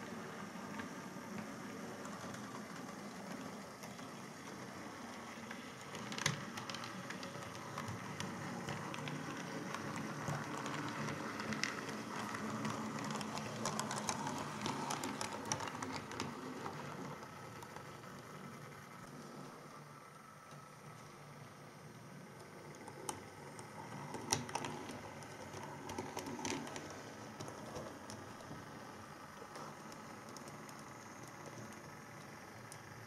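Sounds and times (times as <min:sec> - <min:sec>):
model locomotive motor hum: 0:00.0 - 0:33.0
wheels clicking on rails: 0:00.0 - 0:33.0.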